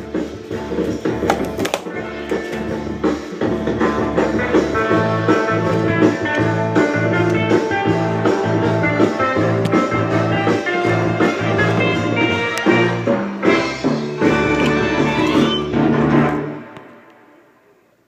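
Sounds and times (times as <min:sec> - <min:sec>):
upbeat guitar music: 0:00.0 - 0:16.8.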